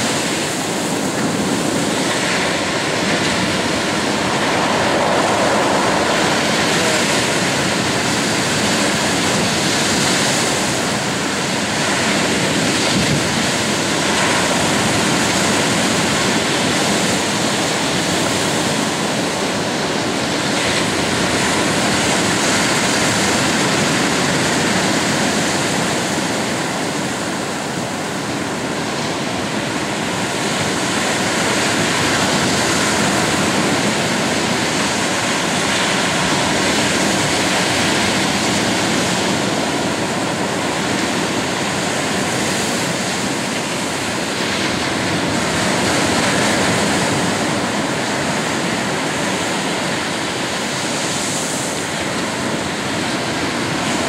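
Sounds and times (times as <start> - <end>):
surf breaking on beach: 0.0 - 54.0.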